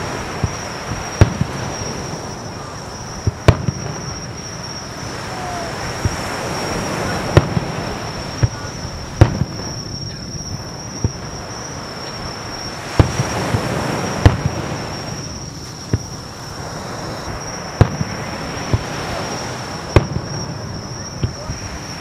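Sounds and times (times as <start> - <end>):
firework shells bursting: 0.0 - 21.9
high insect trill: 0.0 - 22.0.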